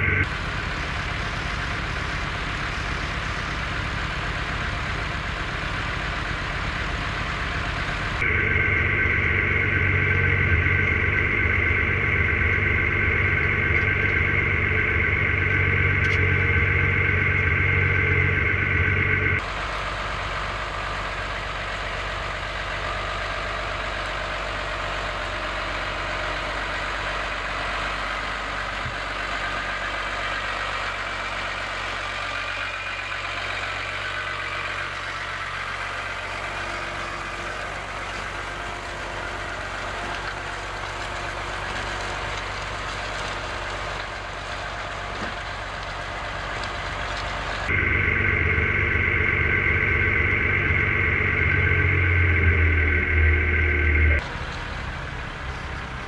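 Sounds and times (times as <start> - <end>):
high whine in cab: 0.0 - 26.6, 32.5 - 56.0
tractor engine running: 0.0 - 56.0.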